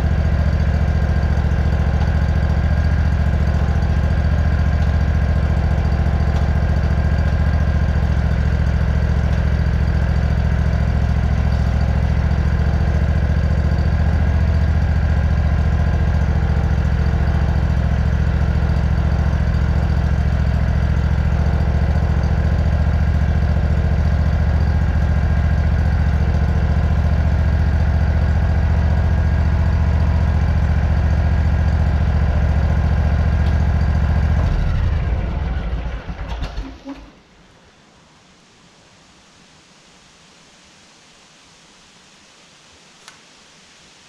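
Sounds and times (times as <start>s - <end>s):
riding lawn mower engine idling: 0.0s - 37.8s.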